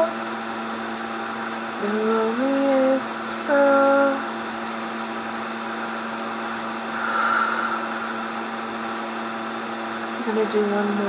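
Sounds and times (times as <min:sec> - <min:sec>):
fan humming and hissing: 0:00.0 - 0:11.0.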